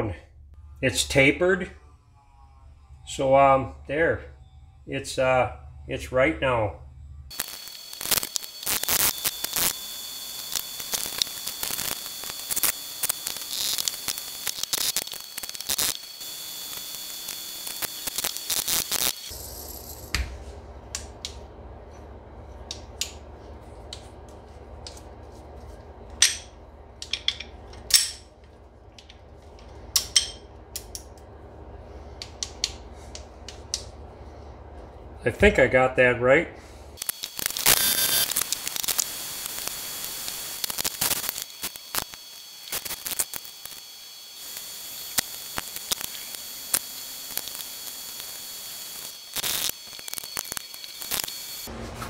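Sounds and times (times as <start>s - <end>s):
steady high whine: 0.0s - 51.8s
steady hum: 0.0s - 52.0s.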